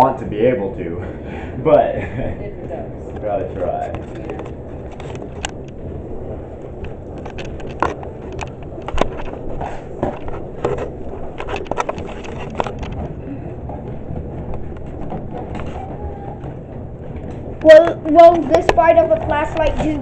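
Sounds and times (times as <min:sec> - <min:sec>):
dishwasher churning: 0:01.7 - 0:20.0.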